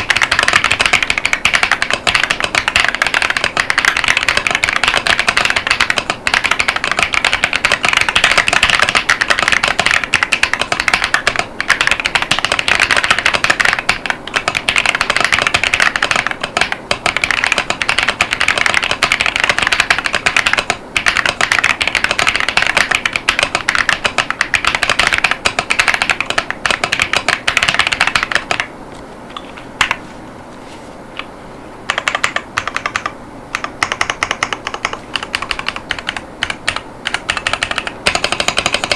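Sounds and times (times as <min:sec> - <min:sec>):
mechanical keyboard typing: 0:00.0 - 0:28.7, 0:31.9 - 0:38.9.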